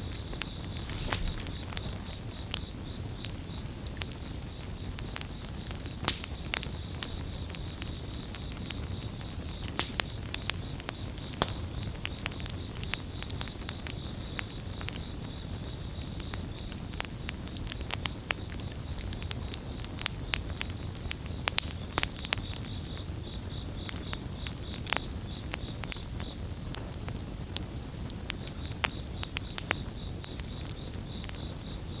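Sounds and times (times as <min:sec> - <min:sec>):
campfire crackling and popping: 0:00.0 - 0:32.0
crickets trilling: 0:00.0 - 0:32.0.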